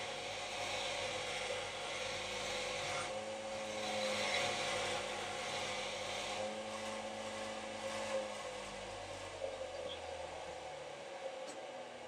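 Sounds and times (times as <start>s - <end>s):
drill motor hum: 0.0s - 12.0s.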